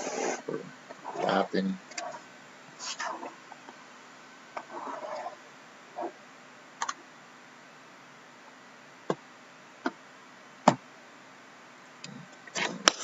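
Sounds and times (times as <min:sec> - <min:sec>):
quiet hiss: 0:00.0 - 0:13.0.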